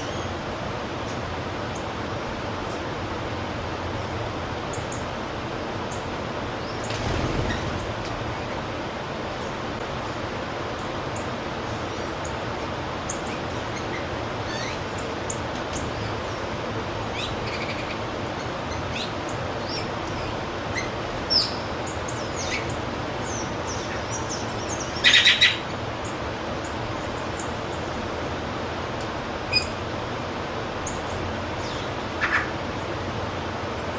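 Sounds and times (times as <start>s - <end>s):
songbirds chirping: 0.0s - 33.9s
steady background hiss: 0.0s - 33.9s.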